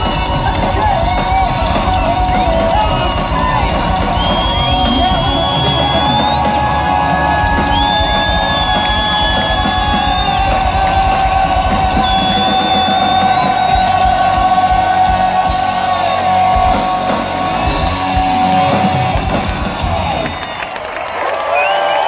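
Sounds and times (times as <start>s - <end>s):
rock band playing live: 0.0s - 21.1s.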